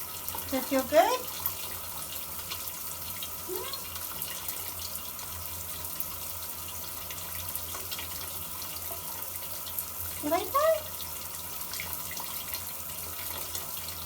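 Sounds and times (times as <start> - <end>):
shower water running: 0.0 - 14.0.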